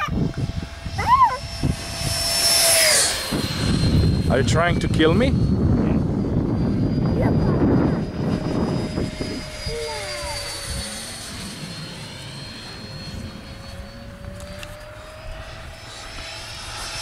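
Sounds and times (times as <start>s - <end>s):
electric jet fan whining: 0.0s - 17.0s.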